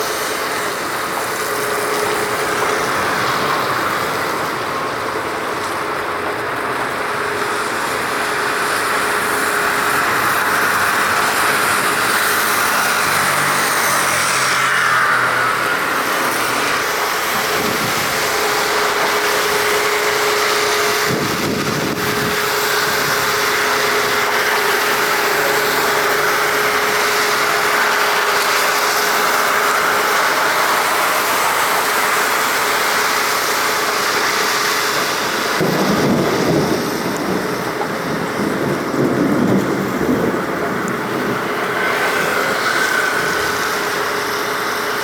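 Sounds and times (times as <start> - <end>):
jet engines roaring: 0.0 - 45.0.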